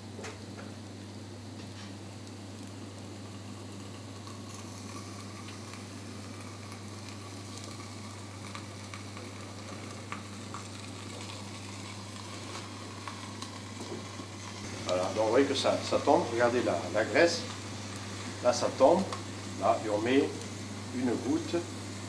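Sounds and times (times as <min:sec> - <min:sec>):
fat sizzling and crackling: 0:00.0 - 0:22.0
steady low hum: 0:00.0 - 0:22.0.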